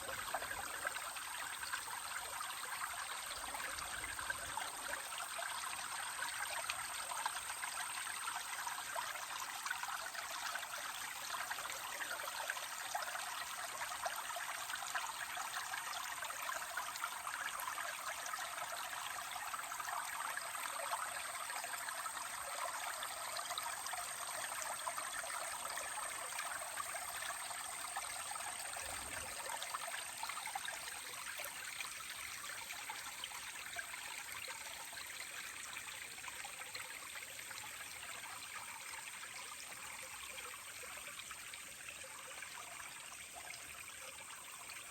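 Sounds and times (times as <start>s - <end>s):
spring water trickling: 0.0s - 44.9s.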